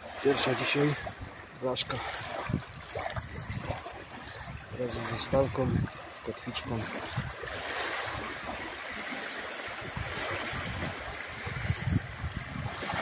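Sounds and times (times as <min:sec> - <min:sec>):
small waves washing on shore: 0:00.0 - 0:13.0
trickling water: 0:00.0 - 0:13.0.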